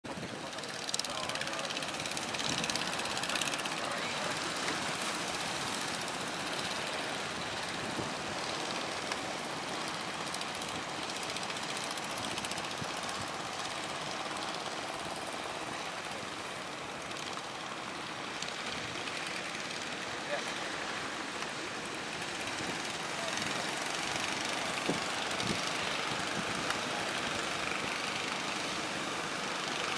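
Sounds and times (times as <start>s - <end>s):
boat engines knocking: 0.1s - 29.9s.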